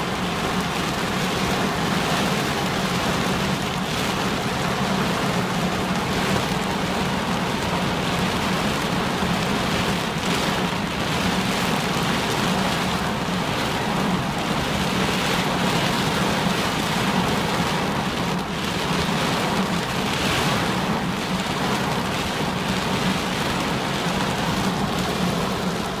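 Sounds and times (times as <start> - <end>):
heavy rain on car roof: 0.0 - 26.0.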